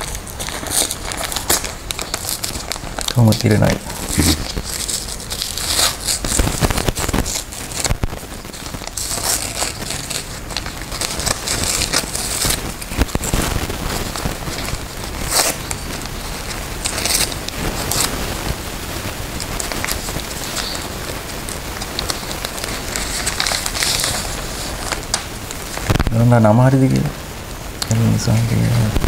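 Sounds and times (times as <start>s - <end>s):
envelope paper tearing: 0.0s - 27.0s
paper rustling: 0.0s - 27.1s.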